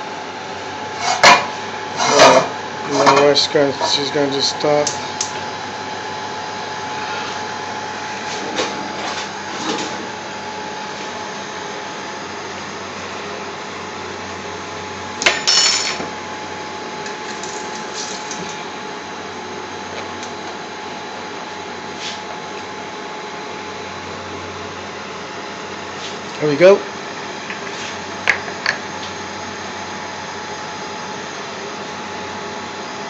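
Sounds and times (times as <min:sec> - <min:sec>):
extractor fan whirring hum: 0:00.0 - 0:33.0.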